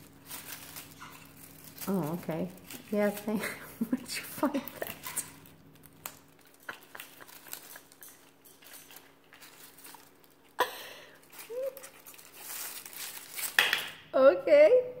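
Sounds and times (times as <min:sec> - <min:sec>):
bird shredding dried flowers: 0:00.0 - 0:14.1.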